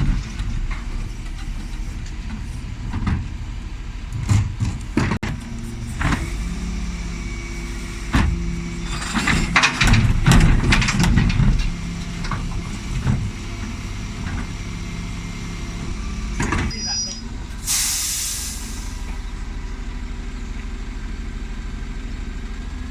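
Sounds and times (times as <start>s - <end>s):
lorry diesel engine running: 0.0s - 22.9s.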